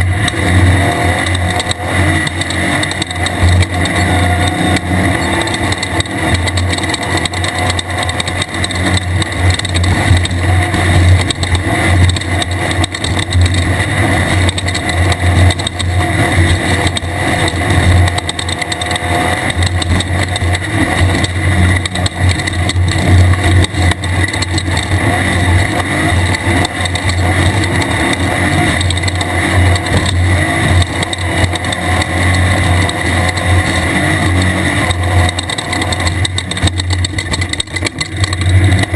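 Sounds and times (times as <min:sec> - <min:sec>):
race car engine droning: 0:00.0 - 0:38.9
rattling and rumbling ride: 0:00.0 - 0:38.9.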